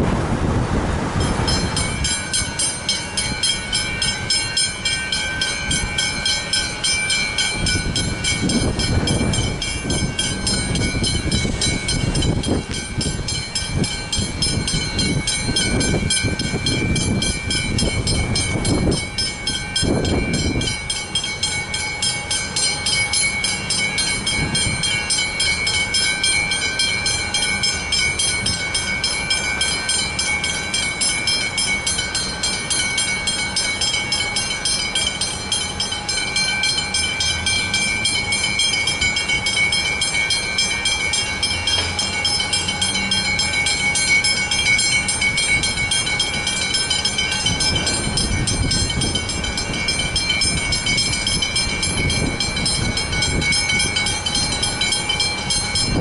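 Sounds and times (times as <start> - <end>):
level-crossing bells ringing: 1.2 - 56.0.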